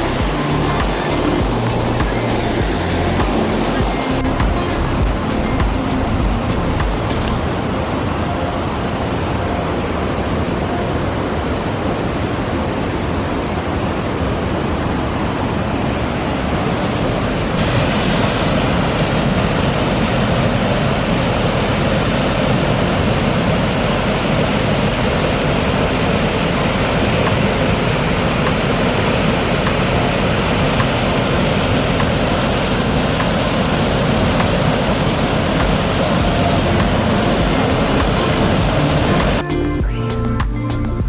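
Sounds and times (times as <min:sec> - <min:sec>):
waterfall rushing: 0:00.0 - 0:39.5.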